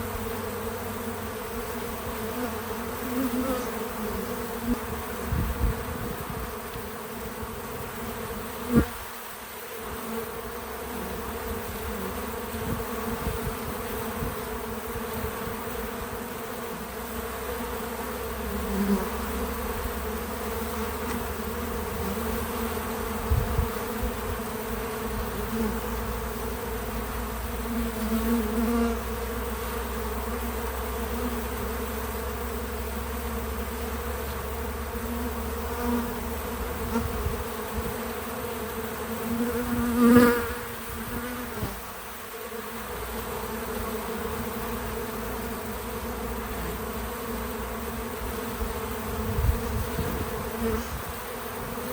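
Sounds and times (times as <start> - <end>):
bees buzzing: 0.0 - 51.9.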